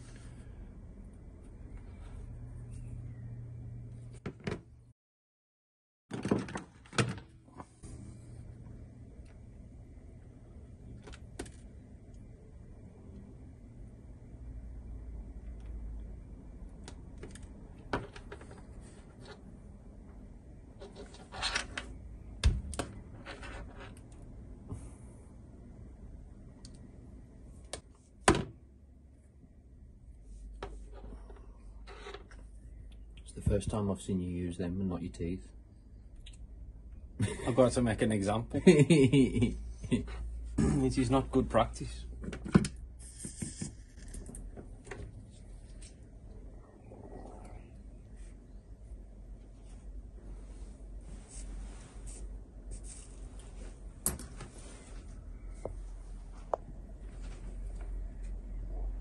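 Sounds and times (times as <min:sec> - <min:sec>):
steady low hum: 0:07.4 - 0:59.0.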